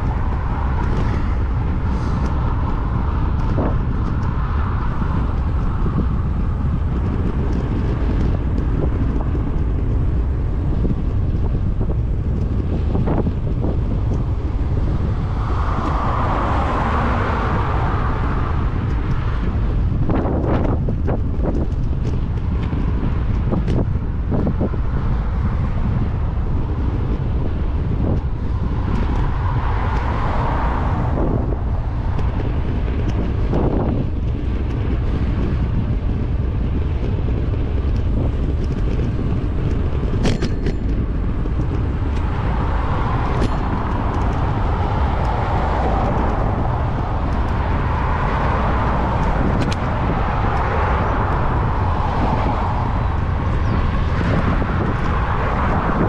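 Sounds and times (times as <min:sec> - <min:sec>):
car traffic passing: 0:00.0 - 0:56.0
wind buffeting microphone: 0:00.0 - 0:56.0.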